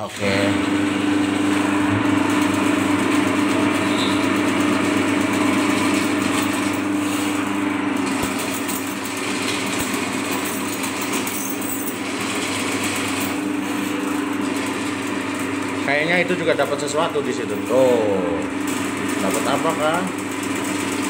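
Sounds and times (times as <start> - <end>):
drain-cleaning machine running: 0.0 - 21.0.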